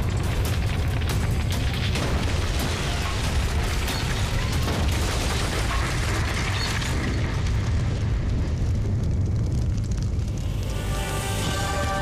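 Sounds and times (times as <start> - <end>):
deep explosion rumble: 0.0 - 10.8
crackling debris: 0.0 - 12.0.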